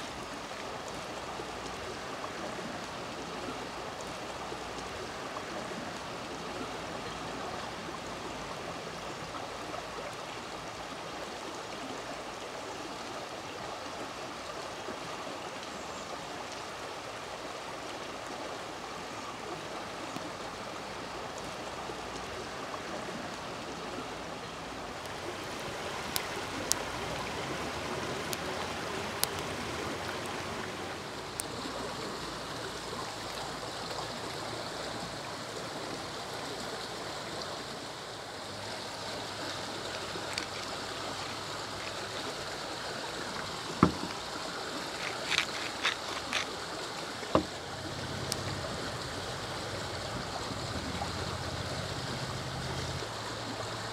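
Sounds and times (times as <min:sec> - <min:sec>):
stream running over stones: 0:00.0 - 0:53.9.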